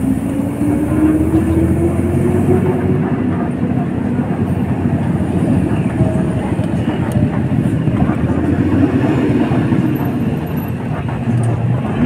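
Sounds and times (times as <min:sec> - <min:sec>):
rumble of passing traffic: 0:00.0 - 0:12.0
vehicle engine speeding up: 0:00.0 - 0:12.0.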